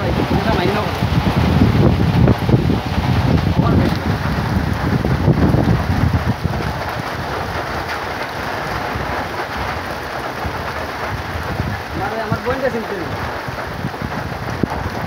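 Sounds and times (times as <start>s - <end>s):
heavy rain pouring: 0.0s - 15.0s
wind buffeting microphone: 0.0s - 15.0s.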